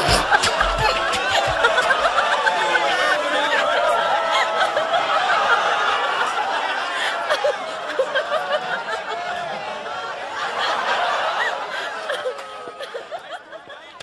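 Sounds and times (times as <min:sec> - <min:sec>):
crowd laughing: 0:00.0 - 0:14.0.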